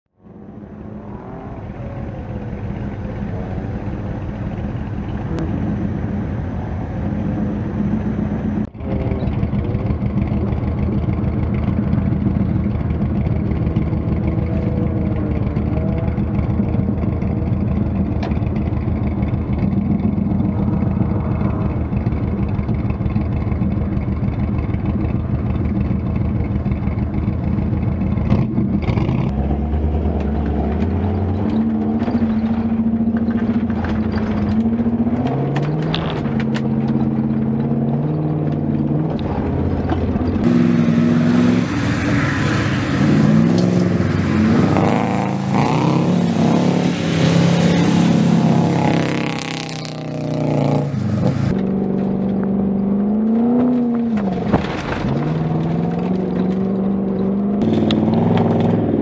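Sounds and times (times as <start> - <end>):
car engine idling: 0.1 - 28.9, 29.8 - 52.4.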